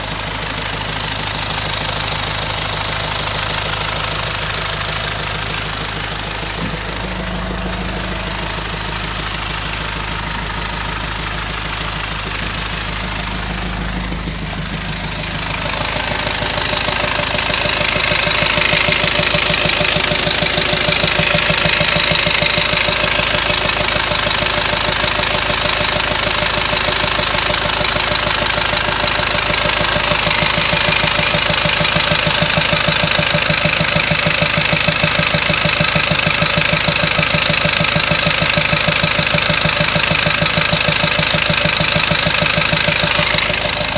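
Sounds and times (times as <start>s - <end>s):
car engine running: 0.0s - 43.9s
transmission knocking: 0.0s - 43.9s.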